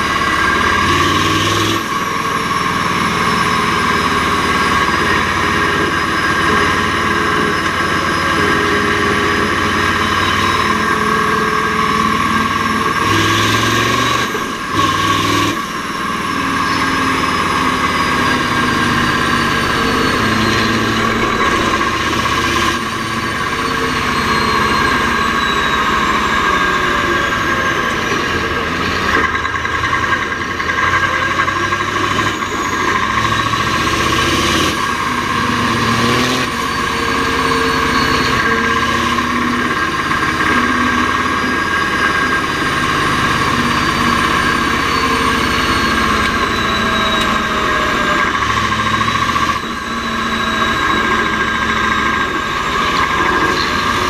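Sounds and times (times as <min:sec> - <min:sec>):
steady high whine: 0:00.0 - 0:54.0
truck engine running: 0:00.0 - 0:54.0.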